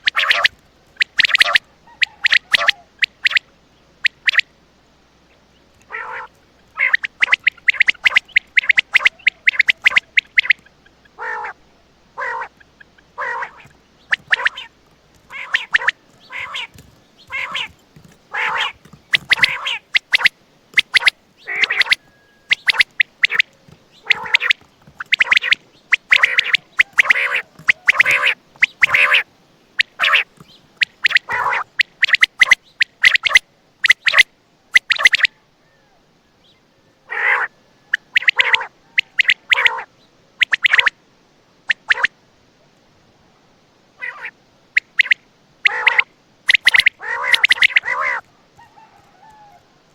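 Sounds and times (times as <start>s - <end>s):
quail calling: 0.0s - 4.6s, 5.3s - 36.0s, 36.9s - 41.0s, 41.7s - 42.1s, 44.0s - 49.9s.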